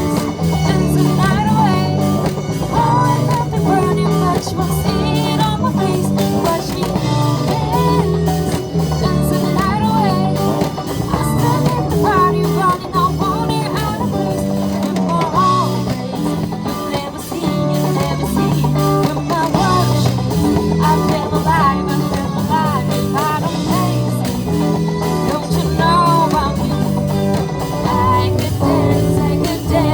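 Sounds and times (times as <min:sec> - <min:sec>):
bass: 0:00.0 - 0:29.9
guitar: 0:00.0 - 0:29.9
person singing: 0:00.0 - 0:29.9.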